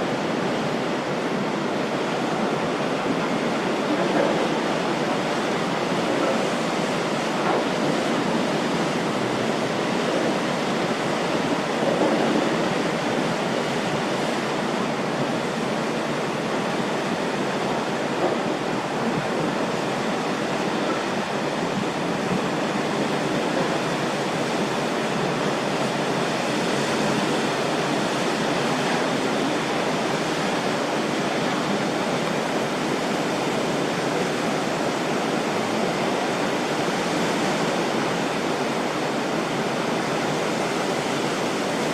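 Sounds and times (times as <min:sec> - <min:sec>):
rushing water and wind: 0:00.0 - 0:41.9.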